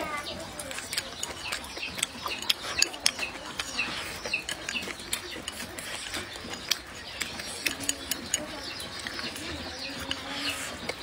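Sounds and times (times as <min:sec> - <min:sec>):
person chewing food: 0:00.0 - 0:11.0
chopsticks clicking against bowl: 0:00.5 - 0:11.0.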